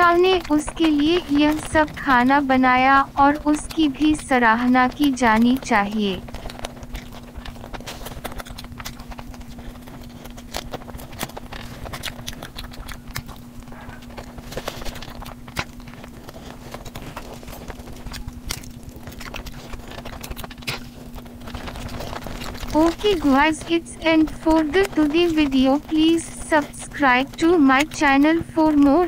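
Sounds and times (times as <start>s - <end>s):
low hum: 0.0s - 29.0s
wet chewing and lip smacks: 0.0s - 29.0s.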